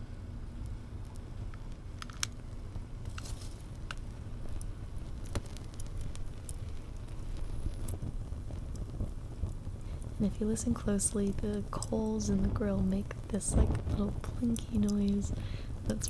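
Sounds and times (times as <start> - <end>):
charcoal crackling and popping: 0.0 - 16.0
flame rumble: 0.0 - 16.0.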